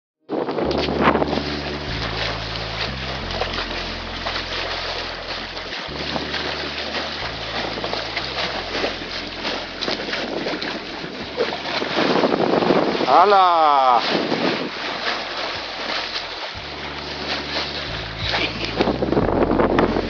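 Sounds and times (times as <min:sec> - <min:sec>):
water rushing along hull: 0:00.3 - 0:20.0
wind noise on microphone: 0:00.3 - 0:20.0.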